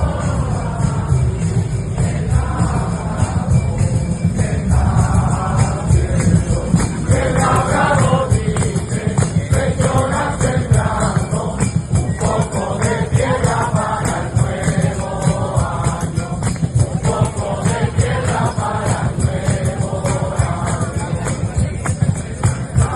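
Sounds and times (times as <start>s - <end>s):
group singing a carol: 0.0s - 22.9s
low rhythmic beat: 0.0s - 22.9s
tambourine jingles: 0.0s - 22.9s.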